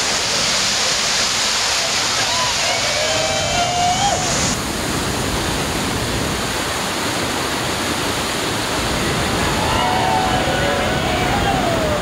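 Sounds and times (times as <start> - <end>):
whitewater rushing over boulders: 0.0 - 12.0.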